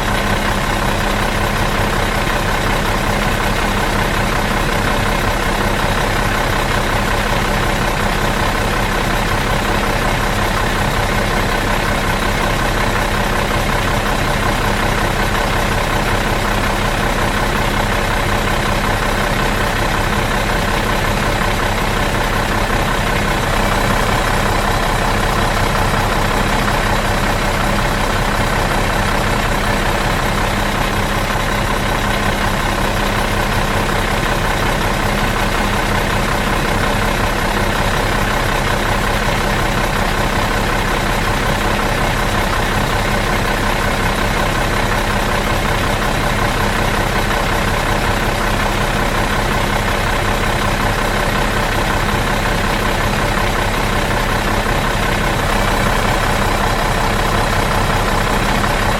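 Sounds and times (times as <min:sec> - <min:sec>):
bus engine idling: 0:00.0 - 0:58.9.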